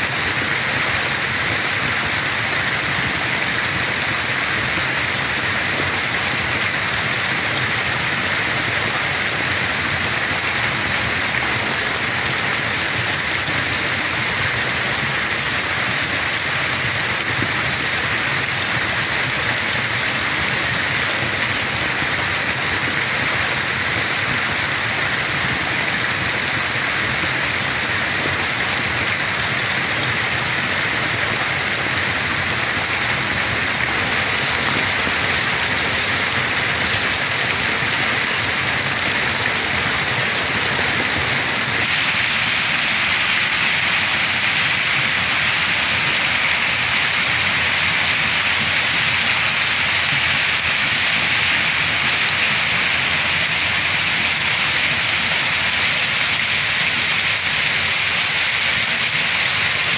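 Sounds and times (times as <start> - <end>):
heavy rain on wet ground: 0.0 - 59.9.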